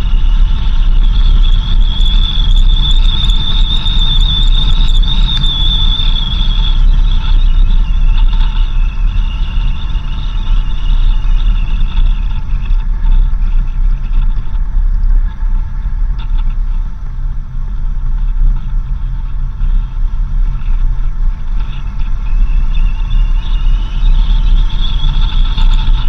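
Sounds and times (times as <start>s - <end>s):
high whine: 0.0s - 26.0s
vehicle engine and tyres rumbling: 0.0s - 26.0s.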